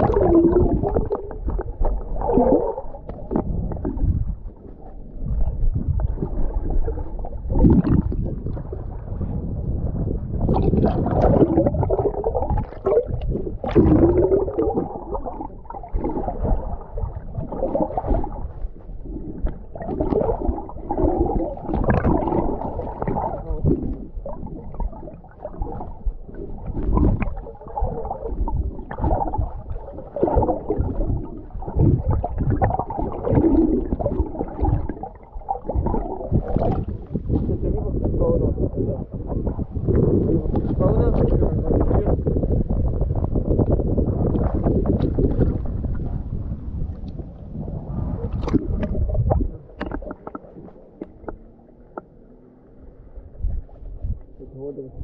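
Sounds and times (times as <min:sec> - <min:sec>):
muffled sea water sloshing: 0:00.0 - 0:55.0.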